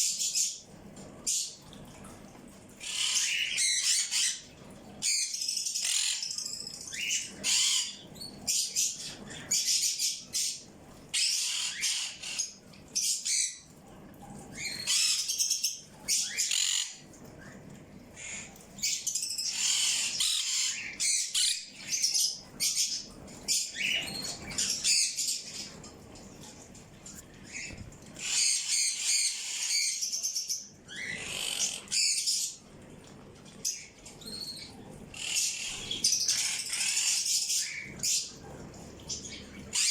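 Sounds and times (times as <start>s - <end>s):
birds chirping and squawking: 2.8s - 13.8s, 14.4s - 32.7s, 33.4s - 39.9s.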